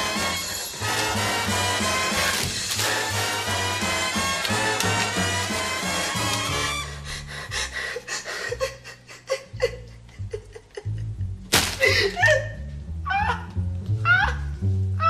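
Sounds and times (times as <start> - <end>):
comedy background music: 0.0 - 15.0.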